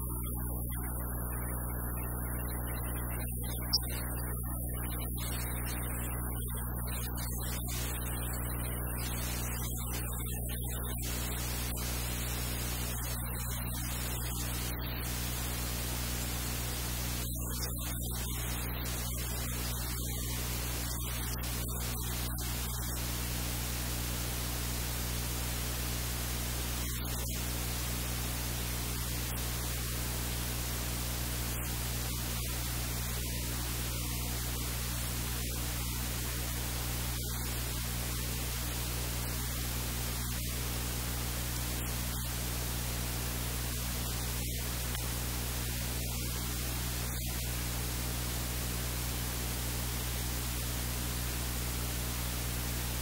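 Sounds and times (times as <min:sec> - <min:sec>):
low electrical hum: 0:00.0 - 0:53.0
static hiss: 0:00.0 - 0:53.0.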